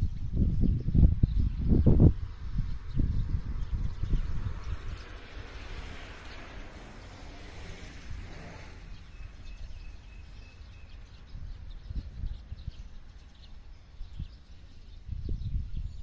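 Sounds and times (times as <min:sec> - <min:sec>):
small birds chirping: 0:00.0 - 0:16.0
wind on microphone: 0:00.0 - 0:16.0.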